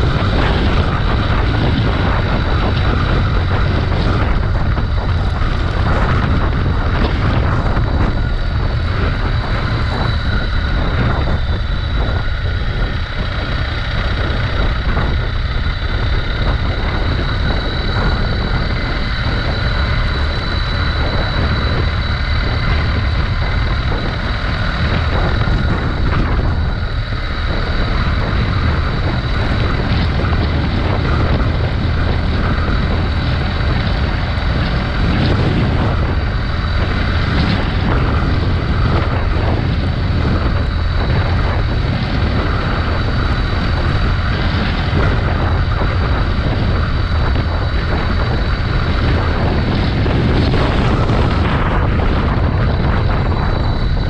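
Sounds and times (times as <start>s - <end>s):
motorcycle engine drone: 0.0s - 54.0s
wind noise on microphone: 0.0s - 54.0s.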